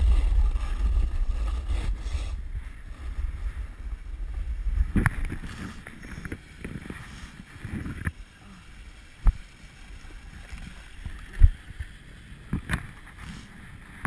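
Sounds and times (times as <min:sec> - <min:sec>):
skis scraping on snow: 0:00.0 - 0:14.0
wind rumble: 0:00.0 - 0:14.0.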